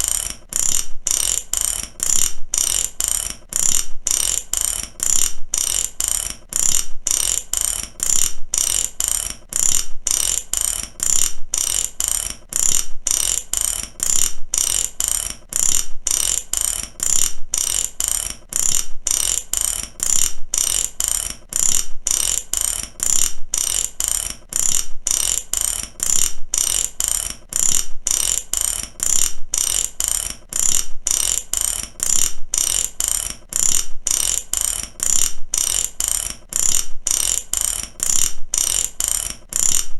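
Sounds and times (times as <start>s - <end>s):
ratchet wrench clicking: 0.0s - 39.9s.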